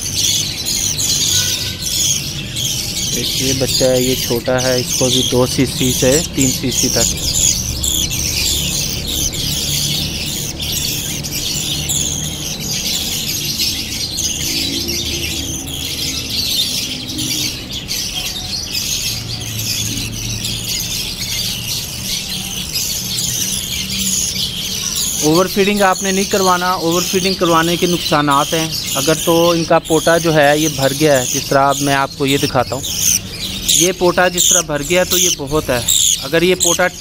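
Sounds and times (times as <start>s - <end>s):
chicks squeaking: 0.0s - 37.0s.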